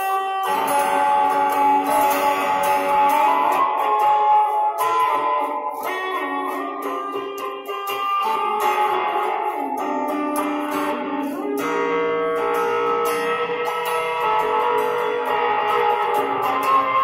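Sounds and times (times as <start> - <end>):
plucked string instrument chords: 0.0 - 17.0.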